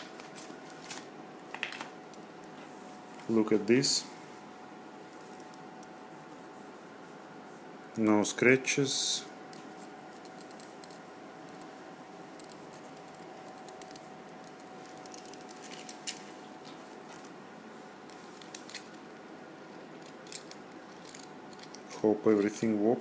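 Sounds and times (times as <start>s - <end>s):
faint room hum: 0.0s - 23.0s.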